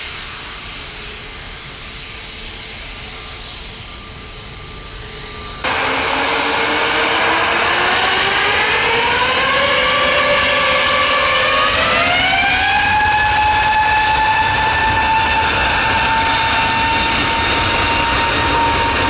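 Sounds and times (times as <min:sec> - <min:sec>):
jet engines spooling up: 0:00.0 - 0:19.0.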